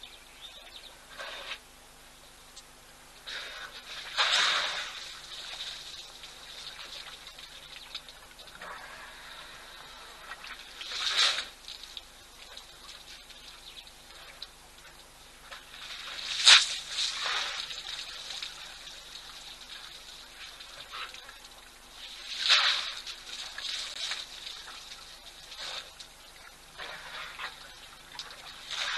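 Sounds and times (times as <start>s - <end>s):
water splashing from elephant trunks: 3.2s - 28.9s.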